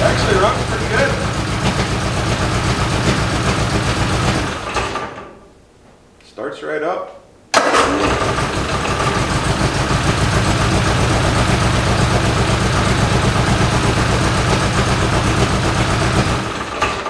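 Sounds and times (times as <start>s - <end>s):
car engine running: 0.0s - 5.0s, 8.0s - 17.0s.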